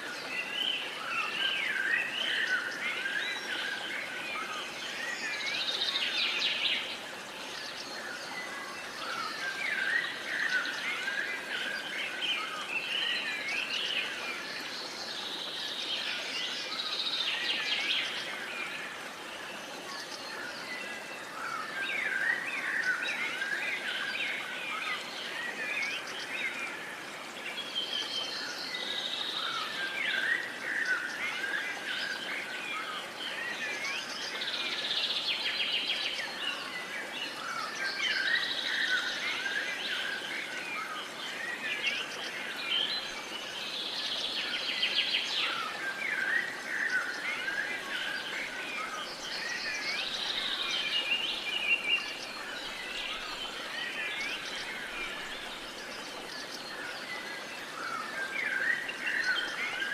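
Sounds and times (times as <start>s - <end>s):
faint outdoor hiss: 0.0s - 59.9s
songbirds chirping and trilling: 0.0s - 59.9s.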